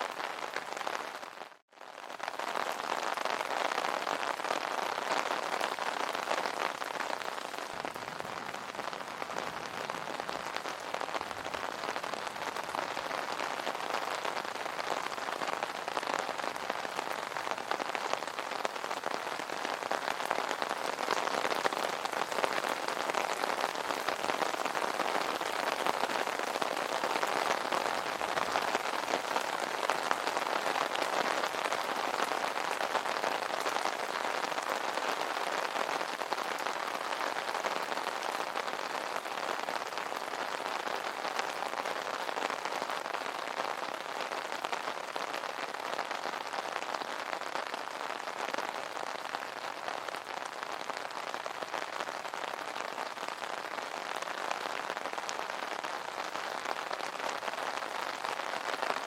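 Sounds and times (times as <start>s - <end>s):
rain on an umbrella: 0.0s - 59.0s.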